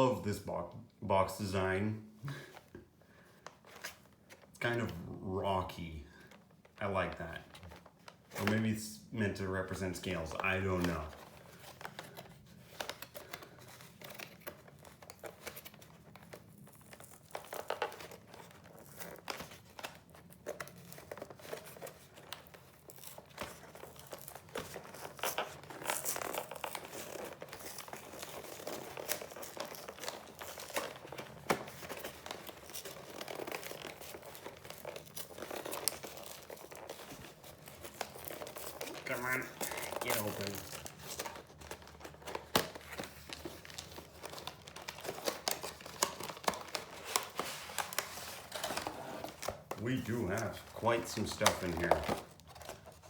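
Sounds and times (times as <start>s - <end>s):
plastic shrink-wrap crinkling and tearing: 9.7s - 53.0s.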